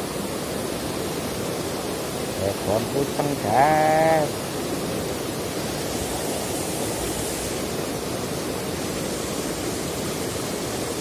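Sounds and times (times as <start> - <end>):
river rapids rushing over rocks: 0.0 - 11.0.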